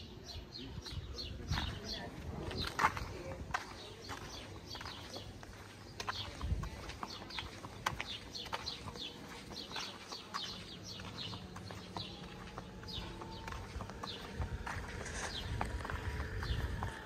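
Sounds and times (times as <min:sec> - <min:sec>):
small birds chirping: 0:00.0 - 0:17.0
footsteps on pavement: 0:00.2 - 0:17.0.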